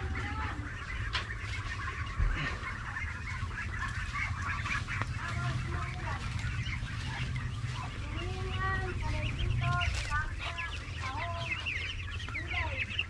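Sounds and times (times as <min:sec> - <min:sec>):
chicks peeping and chirping: 0:00.0 - 0:13.0
steady low rumble: 0:00.0 - 0:13.0.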